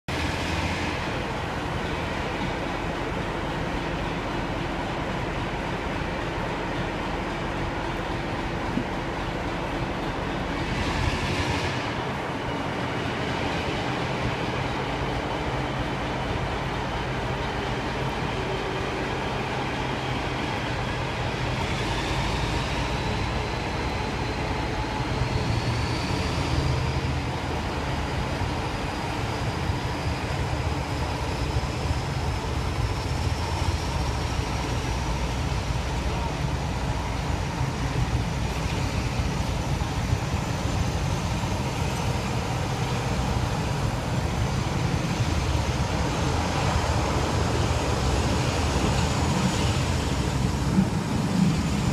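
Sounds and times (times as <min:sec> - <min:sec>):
diesel locomotive drone: 0:00.0 - 0:51.9.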